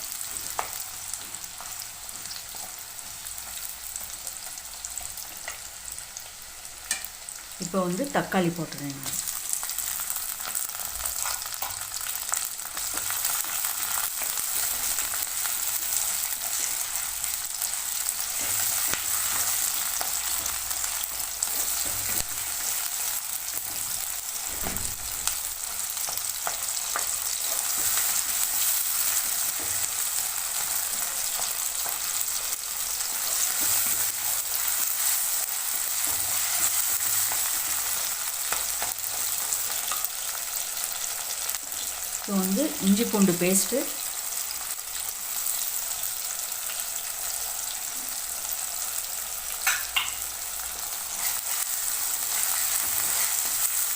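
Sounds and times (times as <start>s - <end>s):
onions and tomatoes sizzling in oil: 0.0s - 53.9s.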